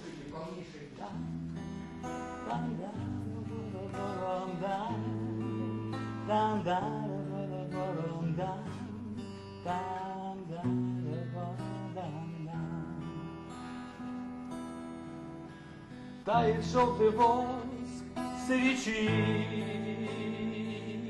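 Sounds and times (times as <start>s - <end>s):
acoustic guitar playing: 1.0s - 21.0s.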